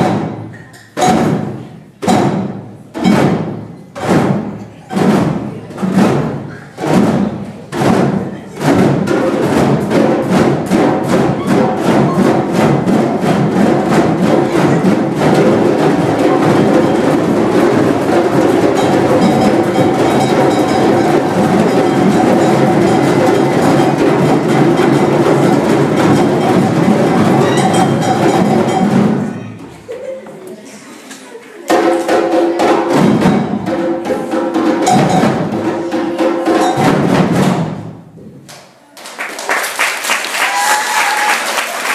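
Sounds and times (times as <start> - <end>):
djembe drums playing: 0.0 - 30.1, 31.6 - 38.4.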